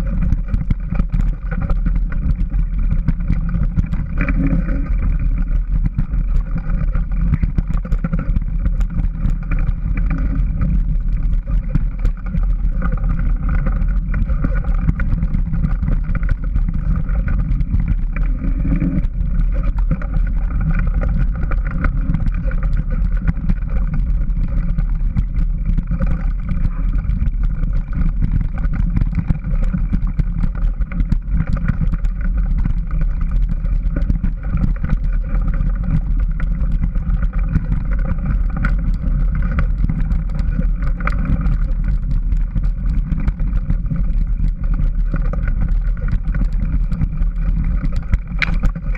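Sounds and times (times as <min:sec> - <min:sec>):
bike rattling and knocking: 0:00.0 - 0:48.9
wind on microphone: 0:00.0 - 0:48.9.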